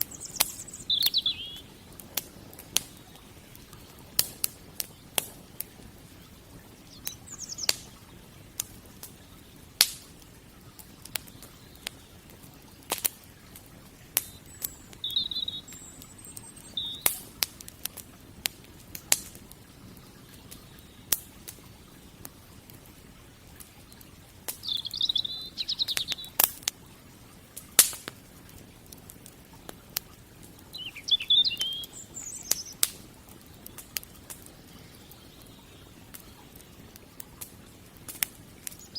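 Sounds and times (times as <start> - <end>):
small birds chirping: 0.0 - 26.8, 30.3 - 37.4, 38.0 - 38.9
wood fire crackling: 0.0 - 38.9.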